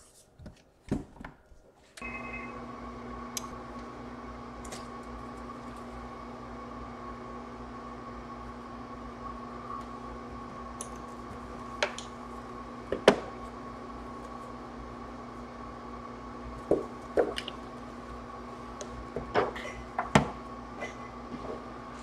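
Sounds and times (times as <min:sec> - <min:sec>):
electrical hum: 0:02.0 - 0:22.0.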